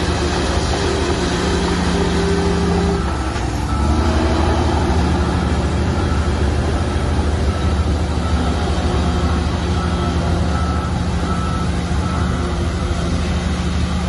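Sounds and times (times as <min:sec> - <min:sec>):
heavy diesel engines rumbling: 0:00.0 - 0:14.0.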